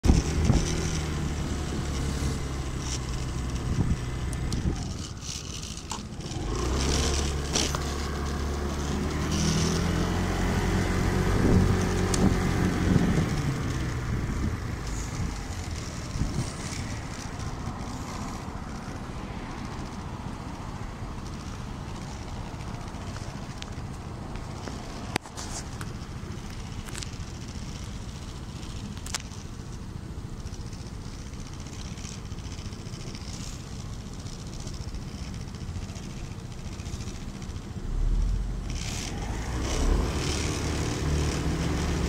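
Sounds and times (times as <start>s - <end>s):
motor scooter engine: 0.0s - 42.0s.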